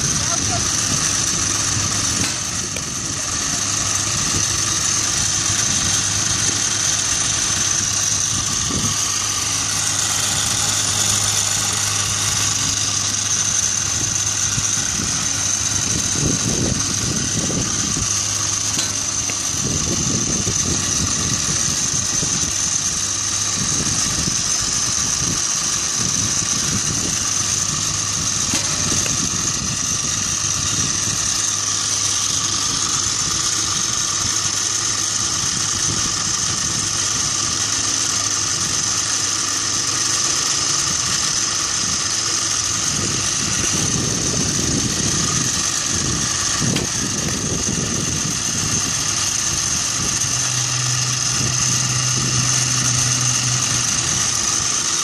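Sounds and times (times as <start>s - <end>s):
low engine-like hum: 0.0s - 55.0s.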